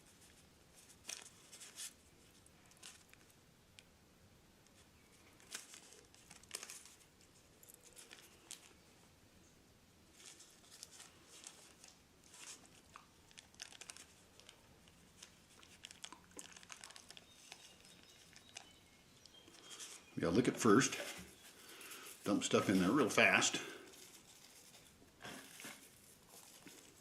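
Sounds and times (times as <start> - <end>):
rolling paper and tobacco crinkling: 0.0 - 3.9, 4.6 - 9.0, 10.1 - 27.0.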